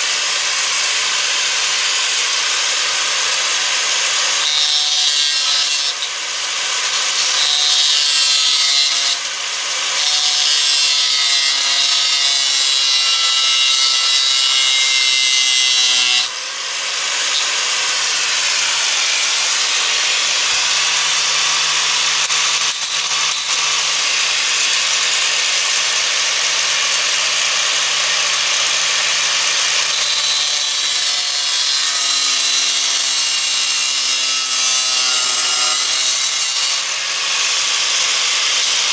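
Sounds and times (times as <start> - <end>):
electric grinder grinding metal: 0.0 - 38.9.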